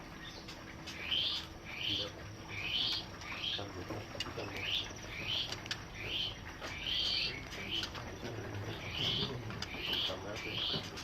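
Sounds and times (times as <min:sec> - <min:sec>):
birds chirping: 0:00.0 - 0:11.0
faint background noise: 0:00.0 - 0:11.0.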